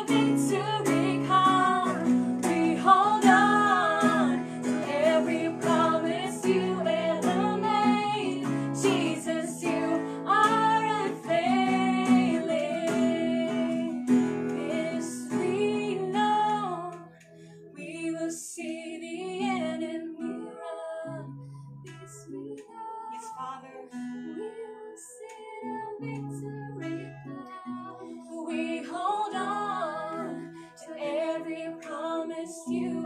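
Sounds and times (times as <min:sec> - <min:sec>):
acoustic guitar: 0:00.0 - 0:33.0
women singing: 0:00.0 - 0:33.0.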